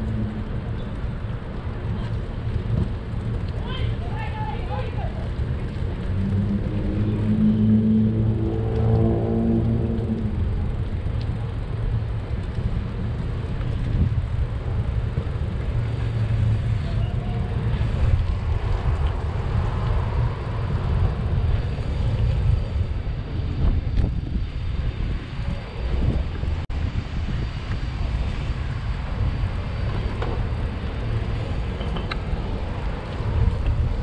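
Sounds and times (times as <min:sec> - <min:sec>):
passing road traffic: 0:00.0 - 0:34.0
wind on microphone: 0:00.0 - 0:34.0.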